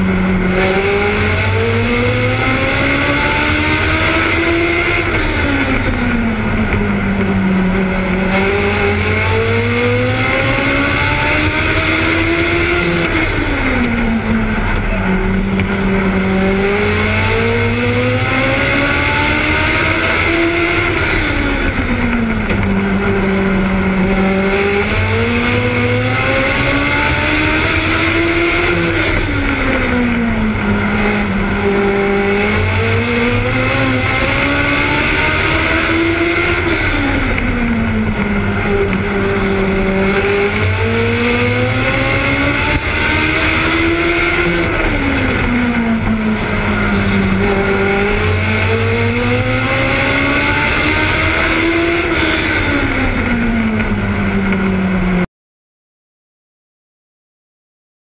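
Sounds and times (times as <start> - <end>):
race car engine revving: 0.0 - 55.3.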